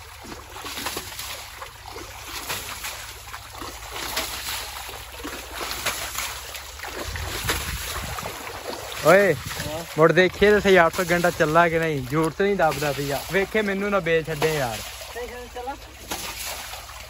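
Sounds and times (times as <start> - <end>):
shallow water sloshing: 0.0 - 17.0
water splashing on metal and tyres: 0.0 - 17.0.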